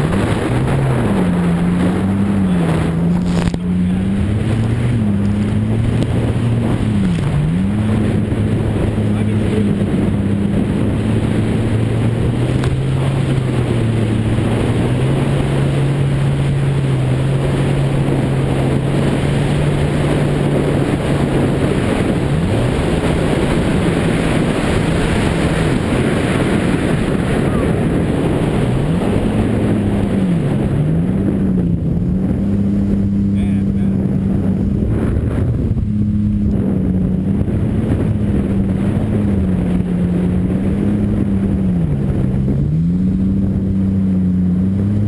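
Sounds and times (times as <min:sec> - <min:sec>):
jet ski engine running: 0:00.0 - 0:45.0
wind and water rushing: 0:00.0 - 0:45.0.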